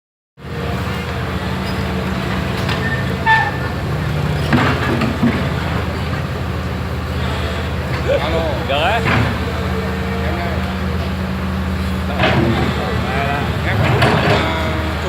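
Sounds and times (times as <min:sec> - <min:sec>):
excavator engine running: 0:00.4 - 0:15.0.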